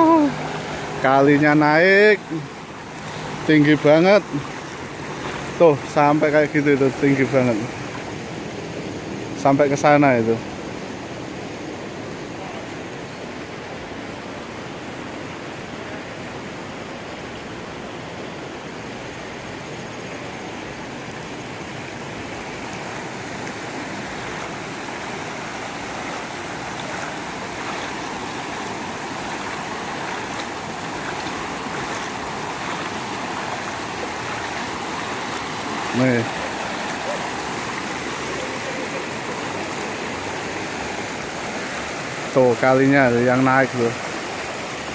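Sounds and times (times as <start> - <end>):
rushing river water: 0.0 - 44.9.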